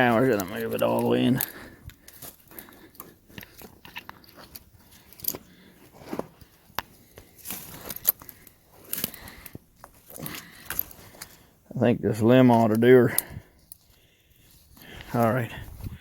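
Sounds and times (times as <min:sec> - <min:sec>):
rustling and scraping handling noise: 0:00.0 - 0:16.0.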